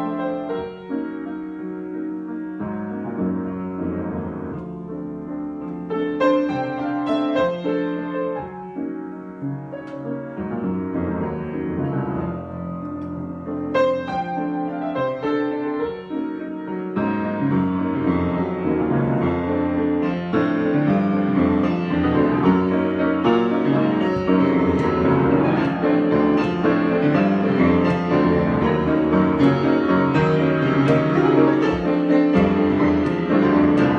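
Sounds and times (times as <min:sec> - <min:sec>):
piano chords: 0:00.0 - 0:33.9
piano melody runs: 0:00.0 - 0:33.9.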